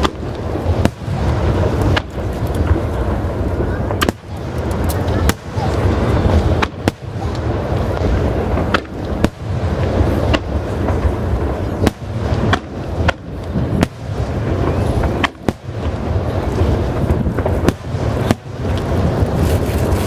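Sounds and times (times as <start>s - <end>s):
fireworks bursting: 0.0s - 20.0s
sharp firework cracks: 0.0s - 20.0s.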